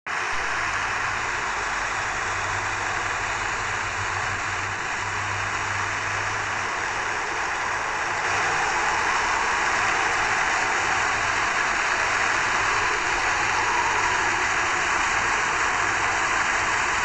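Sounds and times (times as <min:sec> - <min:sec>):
low hum: 0:00.2 - 0:17.0.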